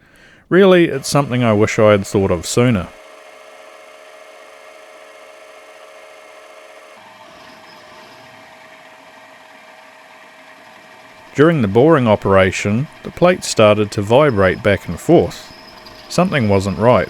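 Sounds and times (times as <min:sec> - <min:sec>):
machine tool motor hum: 0:00.8 - 0:17.0.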